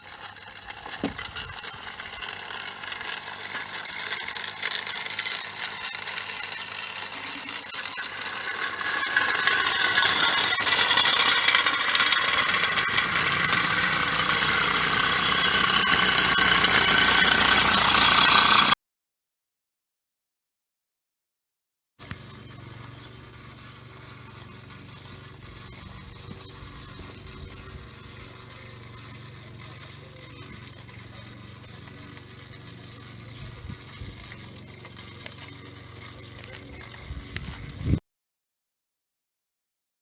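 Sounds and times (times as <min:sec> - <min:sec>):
mechanical rattle: 0:00.0 - 0:18.8, 0:22.0 - 0:38.0
steam traction engines running: 0:00.0 - 0:18.8, 0:22.1 - 0:37.8.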